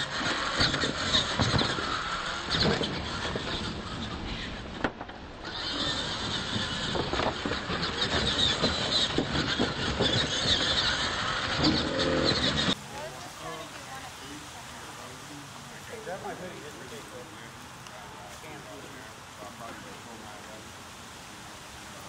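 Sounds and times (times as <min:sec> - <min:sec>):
electric motors whining: 0:00.0 - 0:22.0
tyres rushing on dirt: 0:00.0 - 0:22.0.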